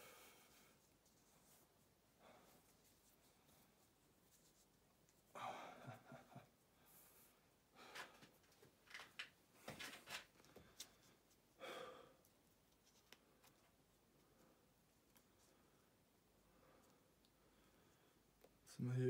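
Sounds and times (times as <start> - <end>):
soft breaths and sighs: 0.0 - 4.0, 5.2 - 18.8.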